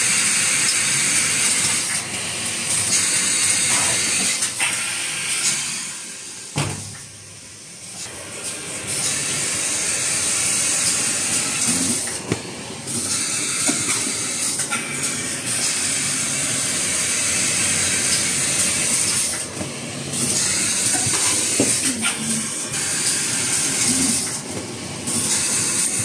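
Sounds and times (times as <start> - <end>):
packing machine hissing: 0.0 - 26.0.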